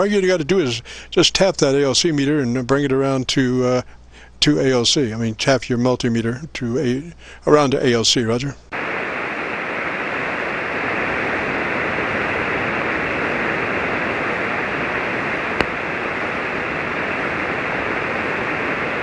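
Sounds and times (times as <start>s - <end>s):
radio band noise hiss: 0.0s - 19.0s.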